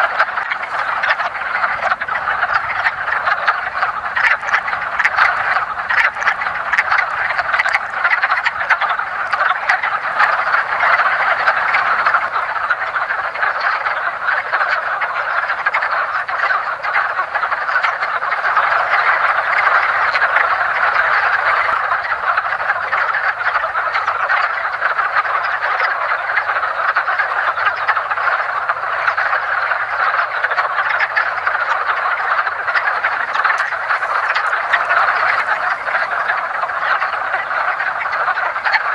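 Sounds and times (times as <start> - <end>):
frog chorus croaking: 0.0 - 38.9.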